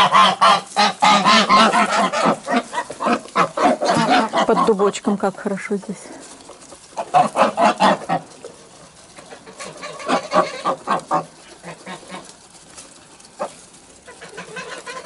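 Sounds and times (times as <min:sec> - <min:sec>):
geese cackling: 0:00.0 - 0:05.2, 0:05.8 - 0:15.0.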